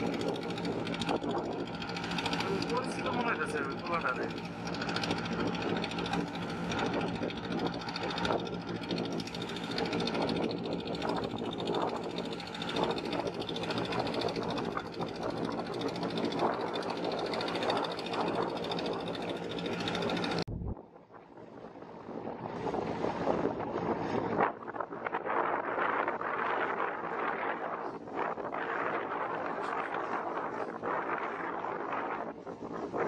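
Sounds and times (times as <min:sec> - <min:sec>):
boat engine droning: 0:00.0 - 0:33.0
water noise: 0:00.0 - 0:33.0
wind: 0:00.0 - 0:33.0.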